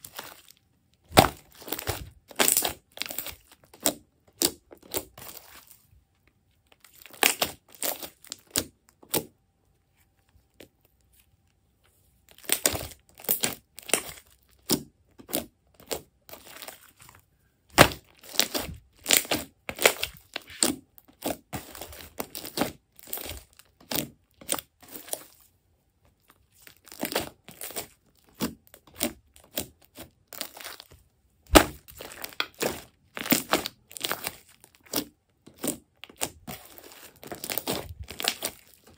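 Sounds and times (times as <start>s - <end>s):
slime squelching and popping: 0.0s - 5.7s, 6.8s - 9.4s, 12.3s - 17.0s, 17.7s - 25.4s, 26.2s - 38.9s.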